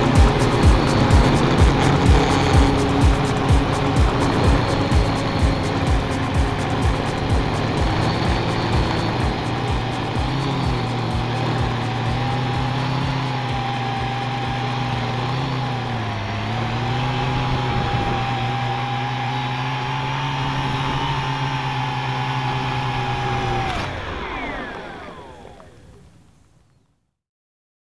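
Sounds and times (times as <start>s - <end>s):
quadcopter motors buzzing: 0.0s - 26.2s.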